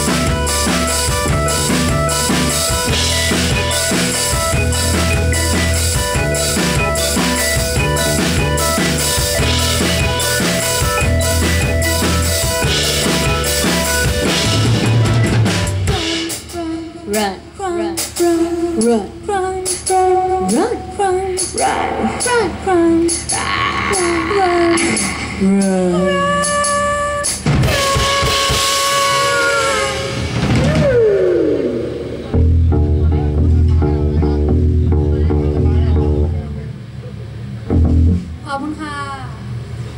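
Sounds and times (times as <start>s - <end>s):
drum kit beat: 0.0s - 36.9s, 37.6s - 38.4s
live rock band: 0.0s - 38.4s.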